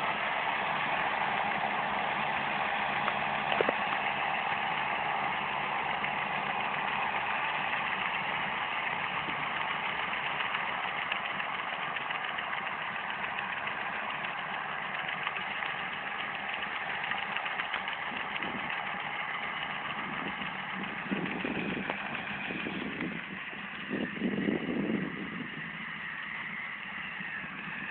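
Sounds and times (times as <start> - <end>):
tractor engines droning: 0.0 - 27.9.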